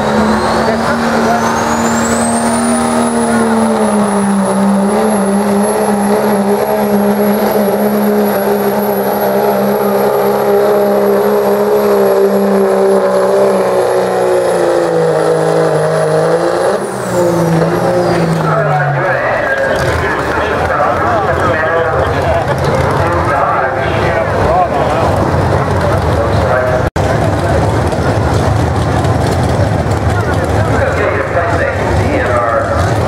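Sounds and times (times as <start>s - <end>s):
diesel pickup engine at full throttle: 0.0s - 33.0s.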